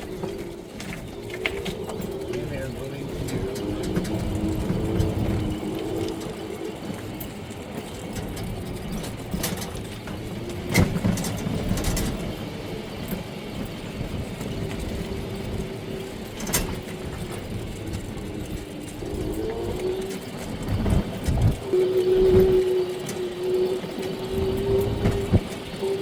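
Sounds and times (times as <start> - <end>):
small vehicle motor whining: 0.0 - 26.0.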